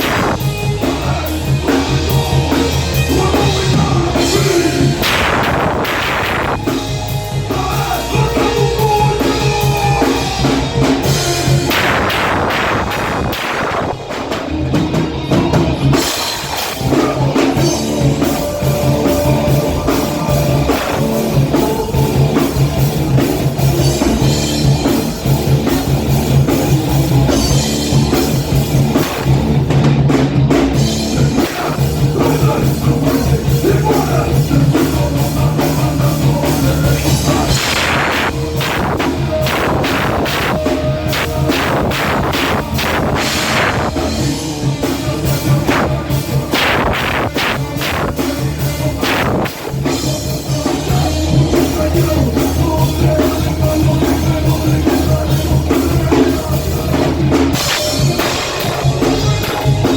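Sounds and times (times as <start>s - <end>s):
drum kit fast beat: 0.0s - 59.9s
rock band playing live: 0.0s - 59.9s.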